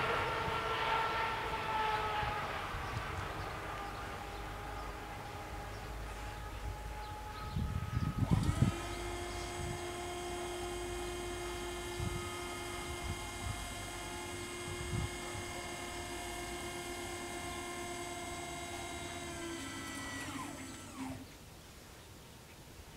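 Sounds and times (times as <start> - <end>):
electric motor whine: 0.0 - 21.3.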